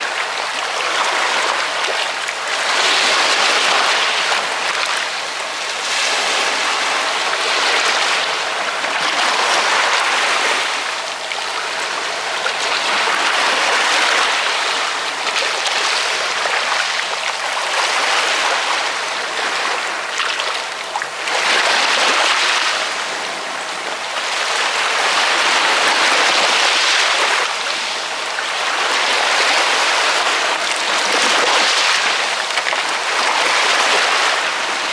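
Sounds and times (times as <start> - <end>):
ocean waves washing on shore: 0.0 - 34.9.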